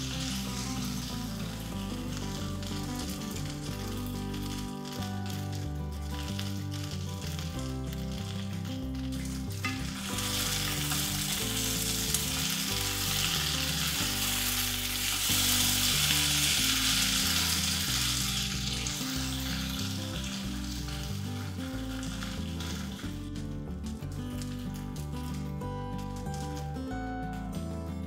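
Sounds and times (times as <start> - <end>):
vegetables sizzling in a pot: 0.0 - 27.5
background music with bass line: 0.0 - 28.0.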